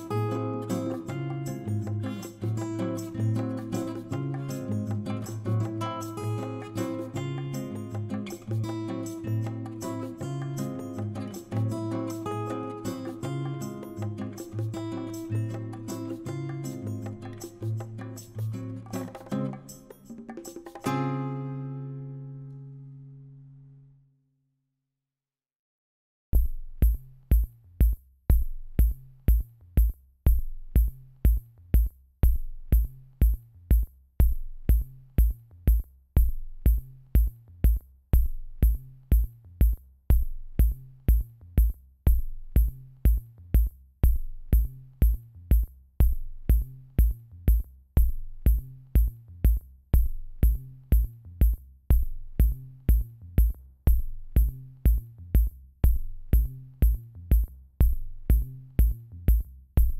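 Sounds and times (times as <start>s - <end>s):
electronic music with drum-machine beat: 0.0s - 20.8s, 26.4s - 59.9s.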